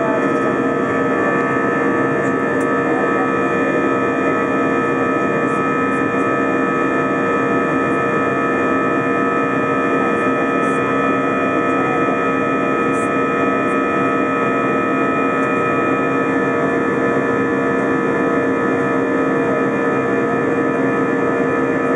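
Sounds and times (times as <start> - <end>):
jet engine drone in cabin: 0.0 - 21.9.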